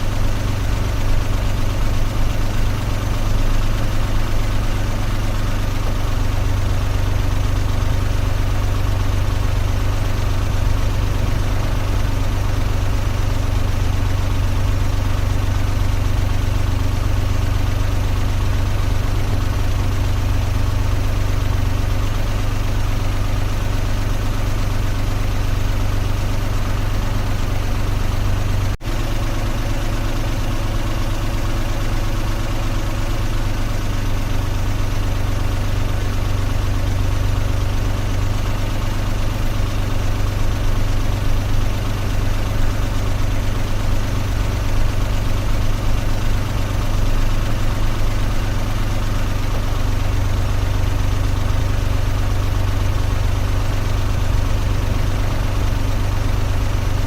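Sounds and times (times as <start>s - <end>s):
car engine humming: 0.0s - 29.4s, 34.2s - 57.0s.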